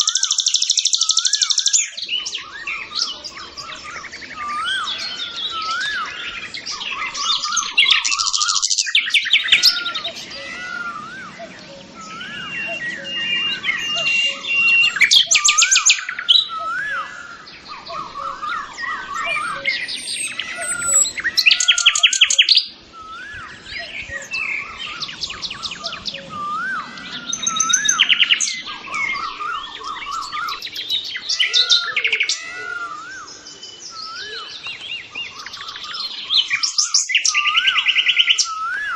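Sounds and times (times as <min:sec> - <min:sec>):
birds chirping and singing: 0:00.0 - 0:38.9
loud fast bird trill: 0:00.0 - 0:38.9.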